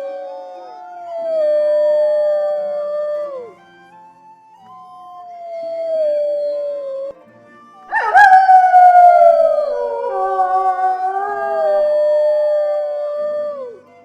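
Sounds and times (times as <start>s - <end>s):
wolves howling: 0.0s - 3.6s, 4.8s - 7.1s, 7.9s - 14.0s.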